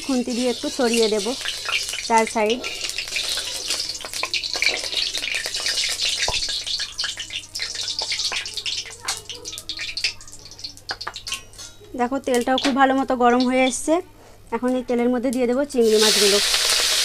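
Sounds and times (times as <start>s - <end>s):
oil sizzling and popping: 0.0s - 13.9s, 14.5s - 17.0s.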